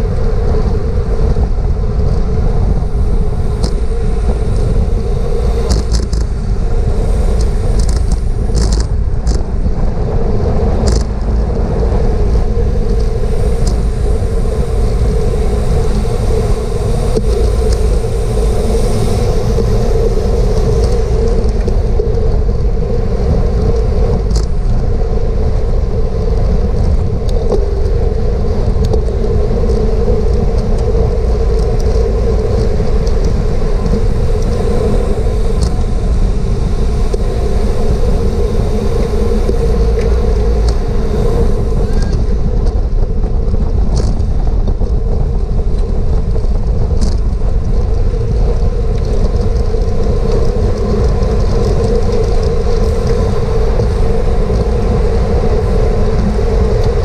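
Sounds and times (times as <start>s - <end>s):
steady hum: 0.0s - 57.0s
wind over microphone: 0.0s - 57.0s.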